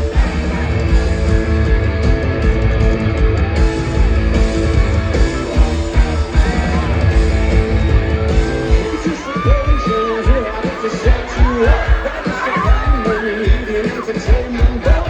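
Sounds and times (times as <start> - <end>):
bass guitar: 0.0 - 15.0
driving drum beat: 0.0 - 15.0
electric guitars: 0.0 - 15.0.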